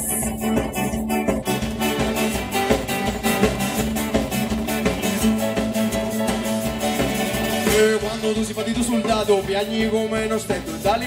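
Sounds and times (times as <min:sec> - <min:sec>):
bass guitar: 0:00.0 - 0:11.0
drum kit steady beat: 0:00.0 - 0:11.0
electric guitars: 0:00.0 - 0:11.0.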